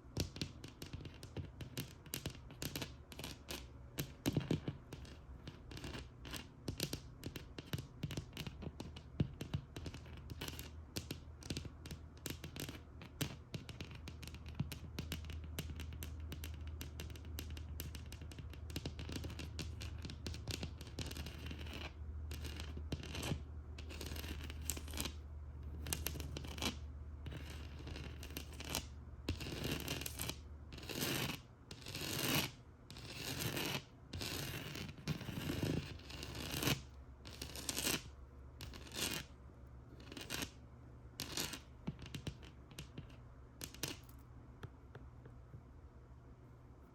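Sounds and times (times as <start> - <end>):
scratching on textured wall: 0.0 - 40.6, 41.2 - 44.2.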